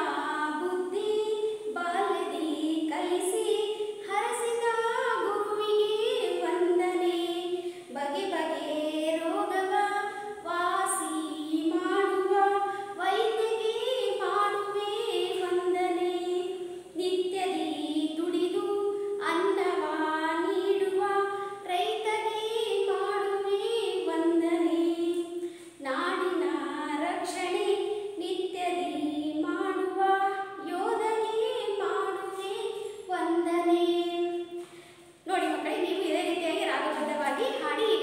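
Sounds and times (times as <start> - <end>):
woman singing unaccompanied: 0.0 - 34.6, 35.2 - 38.0.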